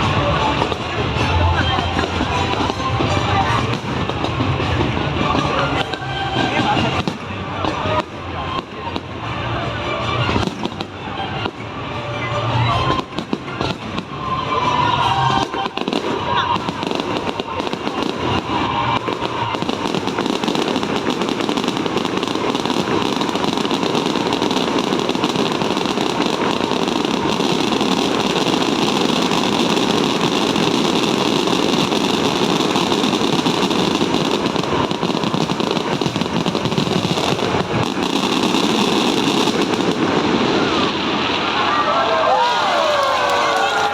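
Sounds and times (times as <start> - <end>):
fireworks crackling pops: 0.0 - 43.9.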